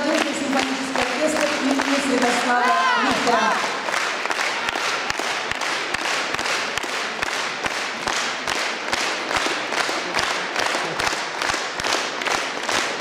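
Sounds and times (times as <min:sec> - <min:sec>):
audience clapping in rhythm: 0:00.0 - 0:13.0.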